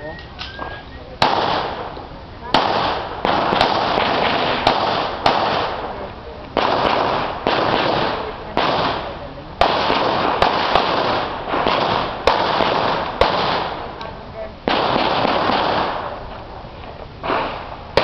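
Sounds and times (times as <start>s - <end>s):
pistol shots with echo: 1.2s - 14.0s, 14.6s - 16.2s, 17.2s - 18.0s.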